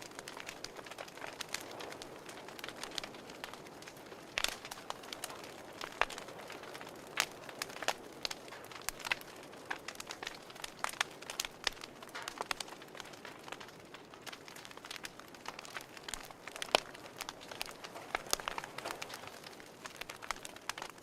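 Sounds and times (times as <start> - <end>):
soft steady hiss: 0.0 - 21.0
wood fire crackling and popping: 0.0 - 21.0.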